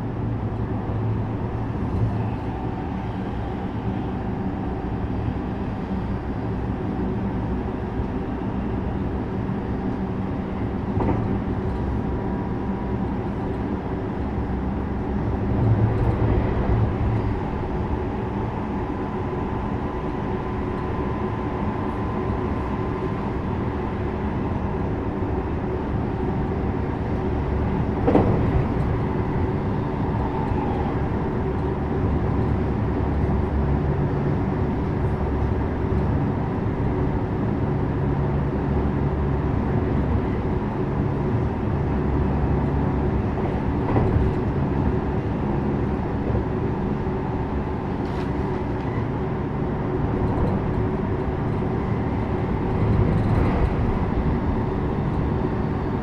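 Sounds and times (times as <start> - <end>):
train motor and gear hum: 0.0 - 56.0
train wheels rumbling on rails: 0.0 - 56.0.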